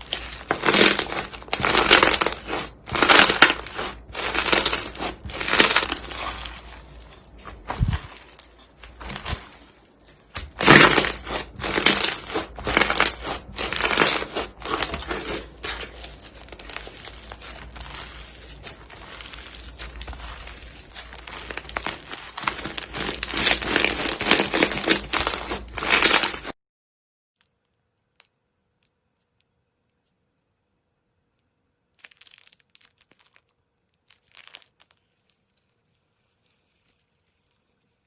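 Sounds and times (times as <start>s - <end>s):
slime squishing and crackling: 0.0s - 26.6s, 31.9s - 37.6s.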